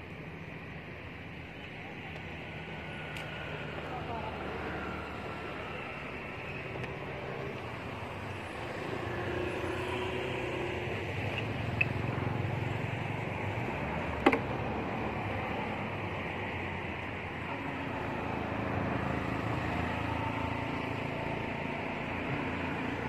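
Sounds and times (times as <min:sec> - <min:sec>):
outdoor background rumble: 0:00.0 - 0:23.0.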